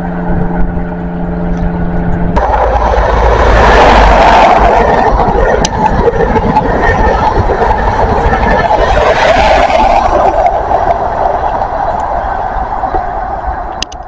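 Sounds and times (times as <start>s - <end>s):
steady droning hum: 0.0s - 14.0s
train passing at speed: 0.0s - 14.0s.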